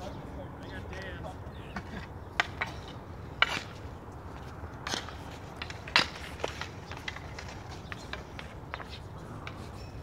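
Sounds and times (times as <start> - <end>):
hockey sticks clacking: 1.8 - 10.0.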